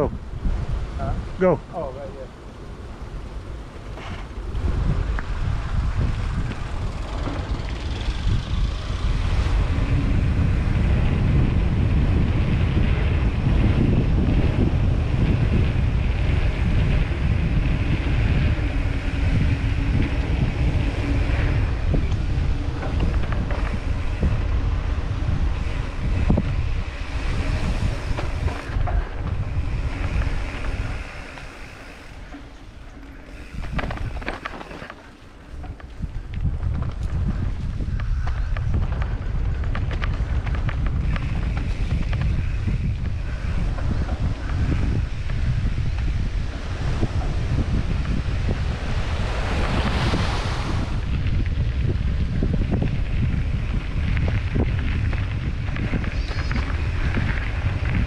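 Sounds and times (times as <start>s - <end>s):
bike rolling on trail: 0.0s - 58.0s
wind buffeting microphone: 0.0s - 58.0s.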